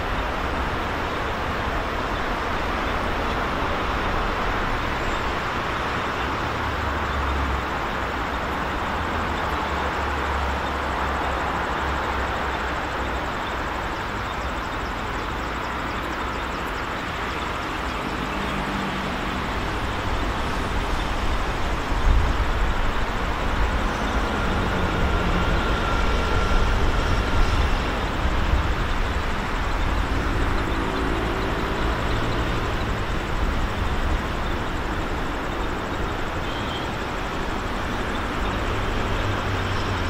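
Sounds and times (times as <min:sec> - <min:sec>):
distant diesel train rumble: 0:00.0 - 0:40.0
road traffic noise: 0:00.0 - 0:40.0.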